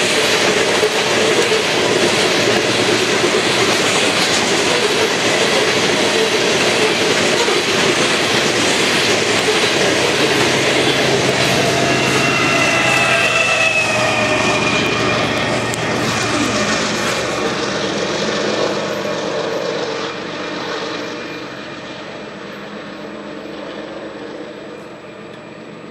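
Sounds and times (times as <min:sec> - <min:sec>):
diesel locomotive engine drone: 0:00.0 - 0:25.9.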